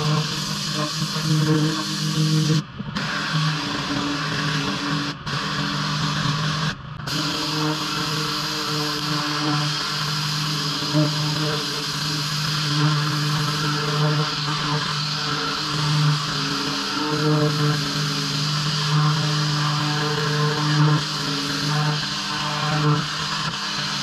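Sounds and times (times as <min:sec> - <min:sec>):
high-pressure water spray hiss: 0:00.0 - 0:24.0
pressure washer engine drone: 0:00.0 - 0:24.0.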